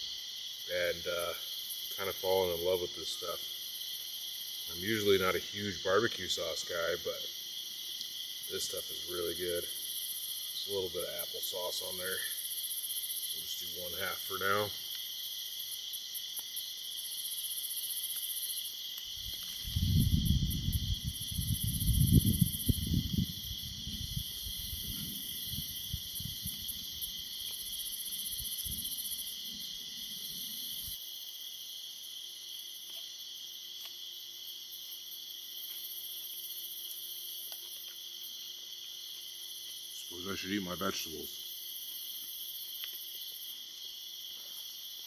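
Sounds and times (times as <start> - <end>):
crickets trilling: 0.0 - 45.0.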